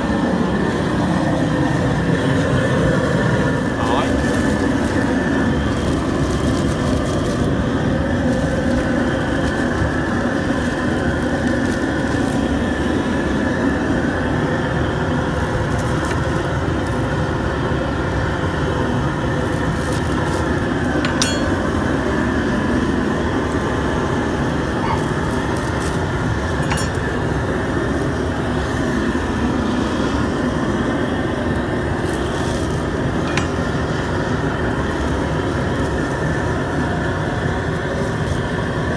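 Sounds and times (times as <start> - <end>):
loud steady roar: 0.0 - 38.9.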